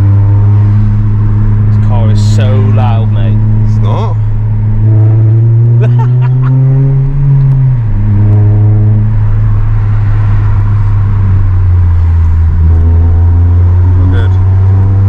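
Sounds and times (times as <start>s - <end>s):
car engine drone: 0.0s - 15.0s
tyre and road noise: 0.0s - 15.0s.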